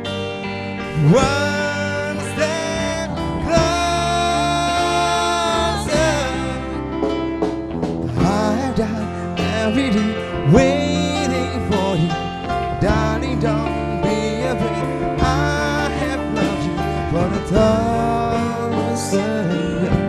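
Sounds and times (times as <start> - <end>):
song with vocals and instruments: 0.0 - 20.0.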